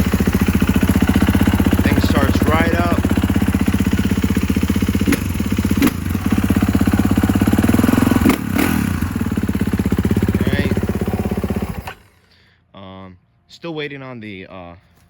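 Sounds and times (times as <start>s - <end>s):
dirt bike engine idling: 0.0s - 12.2s.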